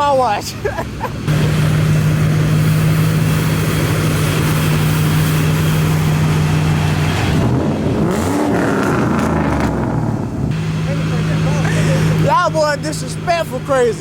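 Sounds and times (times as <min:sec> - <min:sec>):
car engine revving: 0:00.9 - 0:14.0.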